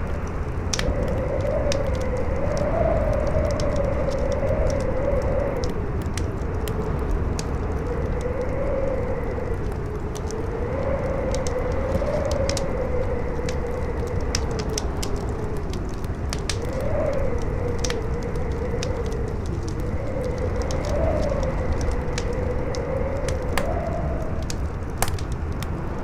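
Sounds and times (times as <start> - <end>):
fire crackling: 0.0 - 26.0
howling wind: 0.0 - 26.0.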